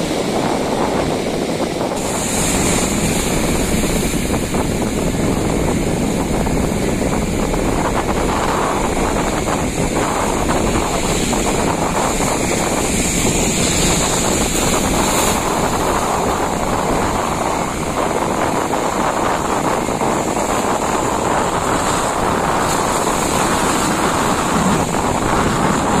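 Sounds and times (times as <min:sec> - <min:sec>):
sea waves washing: 0:00.0 - 0:26.0
wind buffeting microphone: 0:00.0 - 0:26.0.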